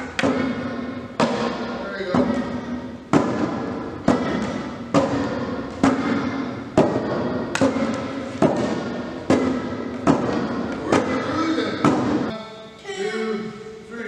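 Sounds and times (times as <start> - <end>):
sharp echoing drum beats: 0.0 - 12.3.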